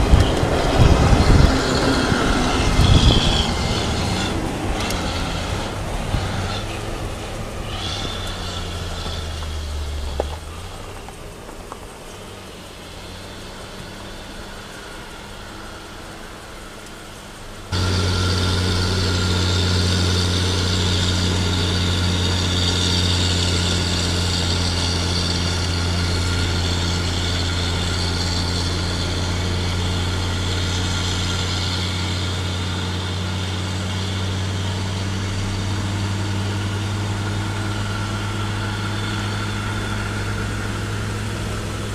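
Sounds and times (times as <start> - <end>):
vehicle engine drone: 0.0 - 41.9.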